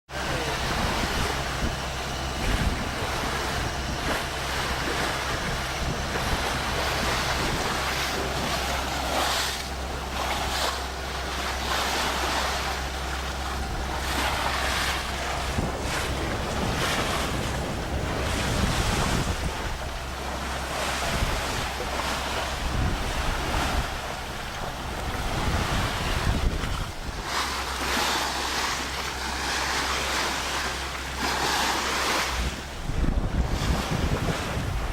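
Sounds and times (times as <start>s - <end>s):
steady low hum: 0.1s - 34.9s
water rushing past boat hull: 0.1s - 34.9s
wind buffeting microphone: 0.1s - 34.9s.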